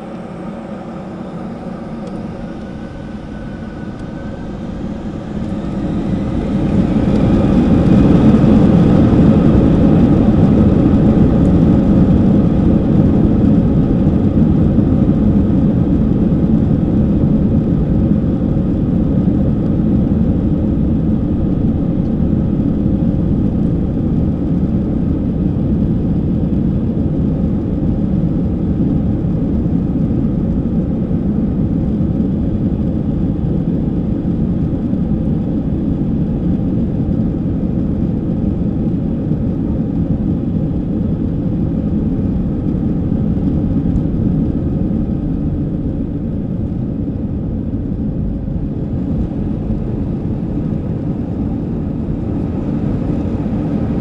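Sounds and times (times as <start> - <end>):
takeoff roll rumble: 0.0 - 25.2, 35.6 - 54.0
jet engines at full thrust: 0.0 - 54.0.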